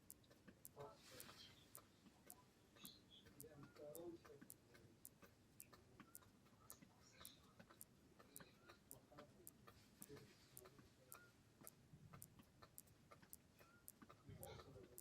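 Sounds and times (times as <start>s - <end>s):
faint regular ticking: 0.0s - 15.0s.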